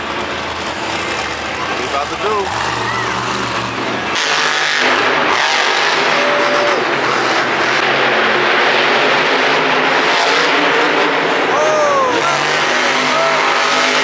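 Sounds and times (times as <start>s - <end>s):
truck engine roaring: 0.0s - 14.0s.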